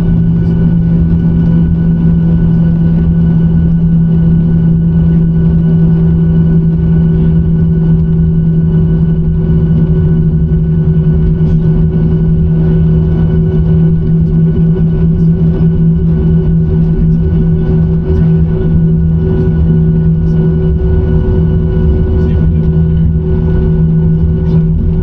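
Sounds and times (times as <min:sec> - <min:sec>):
jet engines droning: 0:00.0 - 0:25.0.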